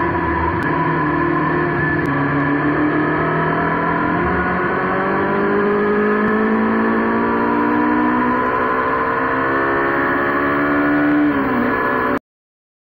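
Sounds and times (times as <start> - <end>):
motorbike engine accelerating: 0.0 - 12.2.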